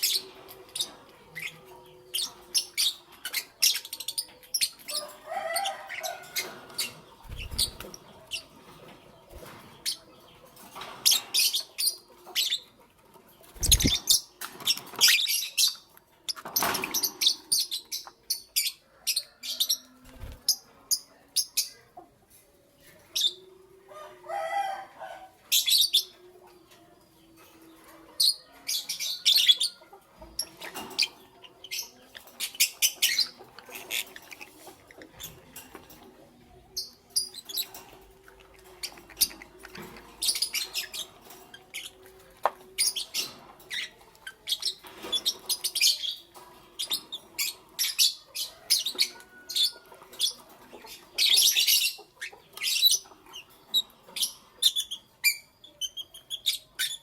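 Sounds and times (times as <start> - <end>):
lovebirds chirping: 0.0 - 22.0, 27.2 - 57.0.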